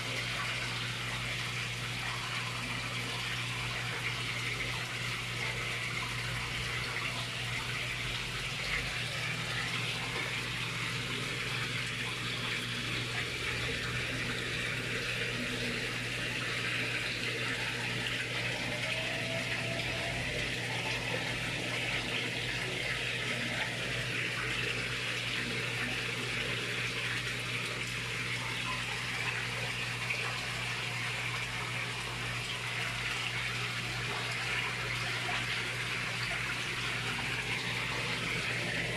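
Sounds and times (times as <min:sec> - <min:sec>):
running water in a pond: 0:00.0 - 0:38.9.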